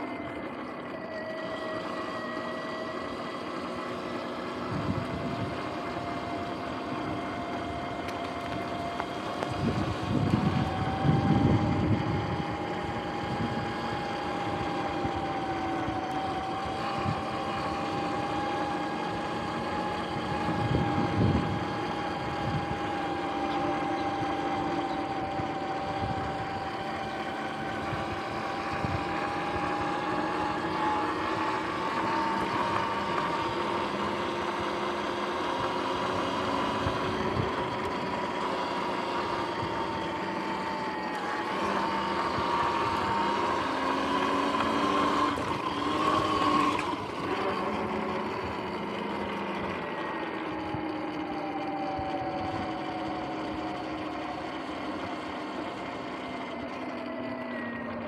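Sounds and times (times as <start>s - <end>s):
electric drive whine: 0.0s - 58.0s.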